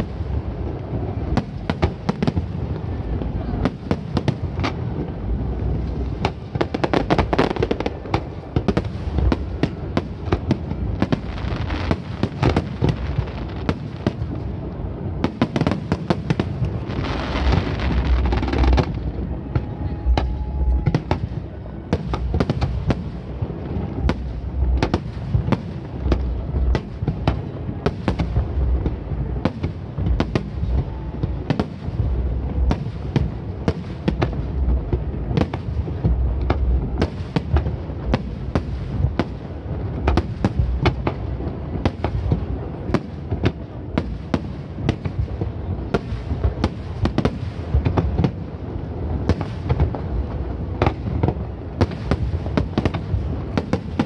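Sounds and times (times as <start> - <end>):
fireworks cracks and booms: 0.0 - 54.0
fireworks hiss and crackle: 0.0 - 54.0.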